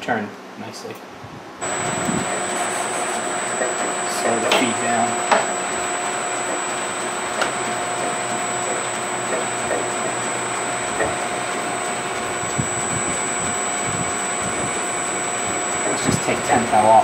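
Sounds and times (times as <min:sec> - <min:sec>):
lathe whine: 0:01.6 - 0:17.0
metal lathe whirring: 0:01.6 - 0:17.0.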